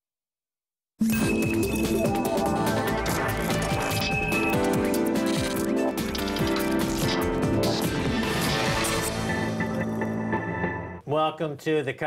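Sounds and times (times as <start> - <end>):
electronic theme music: 1.0 - 11.0.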